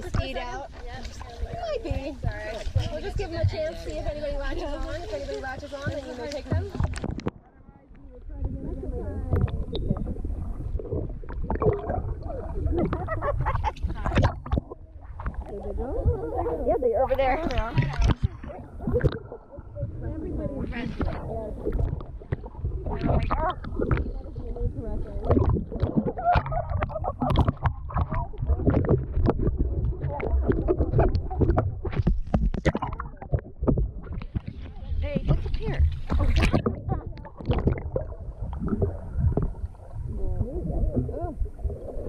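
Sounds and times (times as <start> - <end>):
water splashing in pool: 0.0 - 7.5, 8.3 - 42.0.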